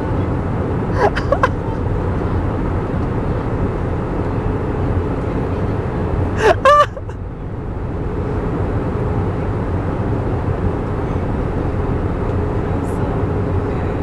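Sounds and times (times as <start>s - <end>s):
airliner cabin roar: 0.0s - 14.0s.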